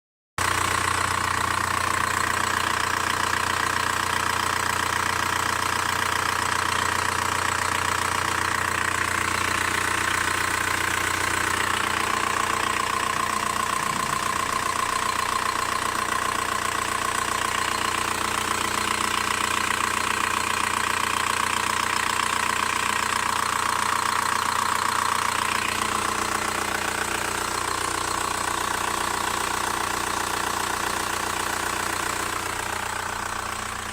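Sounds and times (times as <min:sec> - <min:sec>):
diesel engine idling with ticking: 0:00.4 - 0:33.9.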